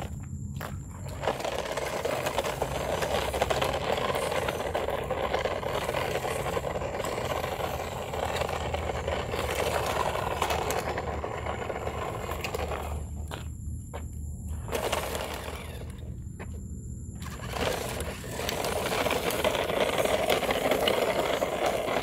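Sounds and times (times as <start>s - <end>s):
plastic wheels rattling on concrete: 0.7s - 13.4s, 14.5s - 16.2s, 17.2s - 22.0s
toy car electric motor running: 1.0s - 13.2s, 14.6s - 16.2s, 17.2s - 22.0s.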